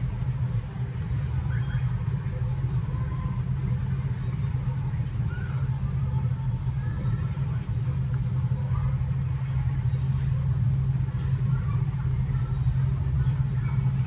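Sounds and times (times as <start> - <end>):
steady low hum: 0.0 - 14.0
pencil scratching on paper: 1.6 - 5.4, 6.2 - 13.8.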